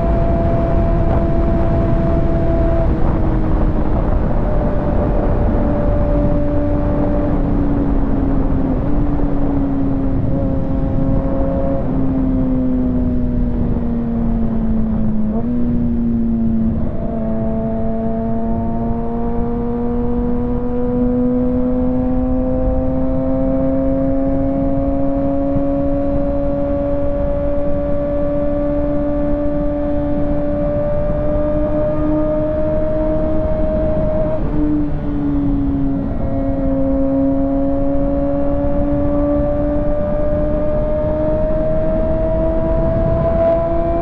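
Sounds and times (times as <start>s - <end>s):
motorcycle engine at highway speed: 0.0s - 44.0s
wind and road noise: 0.0s - 44.0s.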